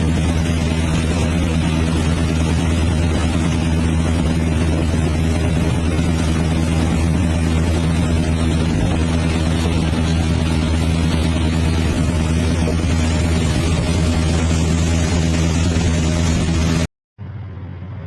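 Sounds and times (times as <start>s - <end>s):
large engine droning: 0.0s - 18.0s.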